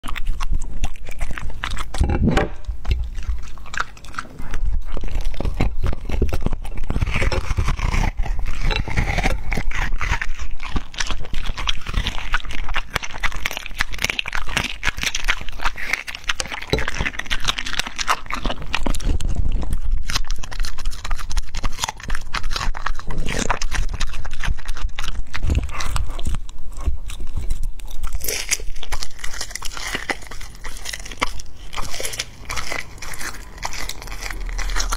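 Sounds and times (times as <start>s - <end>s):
dog chewing and crunching: 0.0s - 34.9s.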